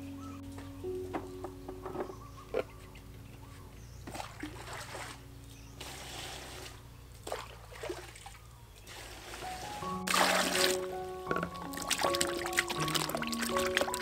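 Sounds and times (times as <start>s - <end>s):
water splashing and trickling: 1.8s - 14.0s.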